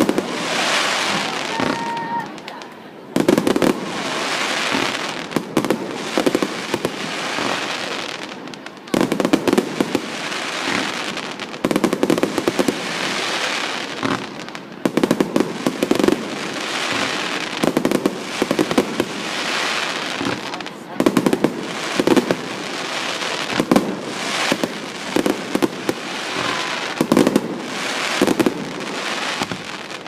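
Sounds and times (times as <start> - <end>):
aerial fireworks bursting: 0.0 - 30.0
dense firework crackling: 0.0 - 30.0.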